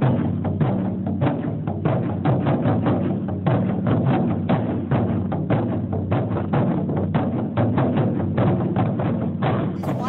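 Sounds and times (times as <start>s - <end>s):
barrel drums beaten with sticks: 0.0s - 10.0s.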